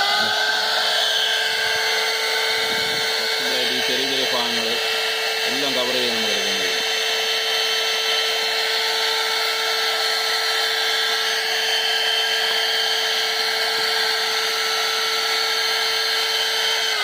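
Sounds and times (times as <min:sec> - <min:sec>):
car vacuum cleaner running: 0:00.0 - 0:17.0.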